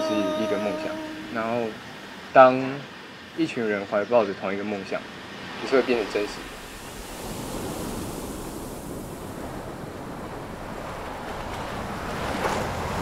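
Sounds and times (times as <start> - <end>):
sea waves: 0.0 - 3.5, 4.5 - 13.0
wind: 0.0 - 13.0.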